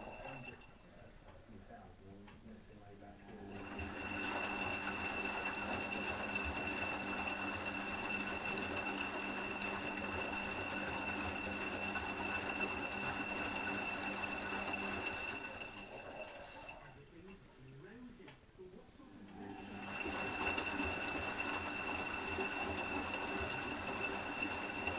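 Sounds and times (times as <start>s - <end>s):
washing machine running: 0.0s - 18.0s, 19.0s - 24.9s.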